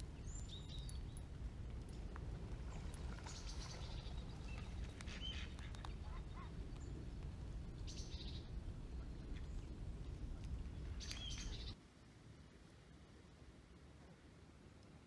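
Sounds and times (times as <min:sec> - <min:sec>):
low background rumble: 0:00.0 - 0:14.6.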